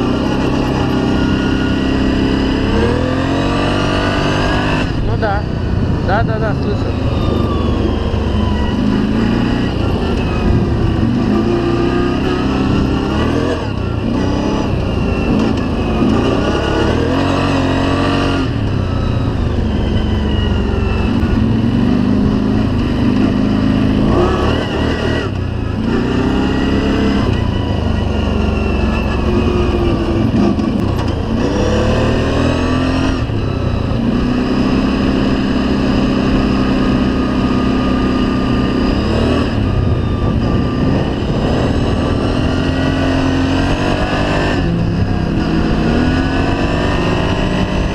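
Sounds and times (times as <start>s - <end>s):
vehicle engine revving: 0.0s - 47.9s.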